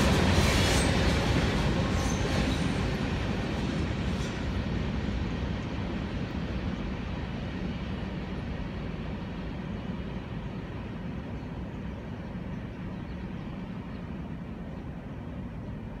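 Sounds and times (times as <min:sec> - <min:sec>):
freight train cars rolling on rails: 0:00.0 - 0:16.0.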